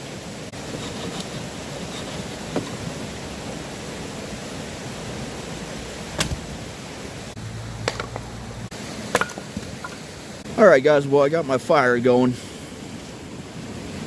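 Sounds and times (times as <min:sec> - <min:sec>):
campfire hissing: 0:00.0 - 0:14.0.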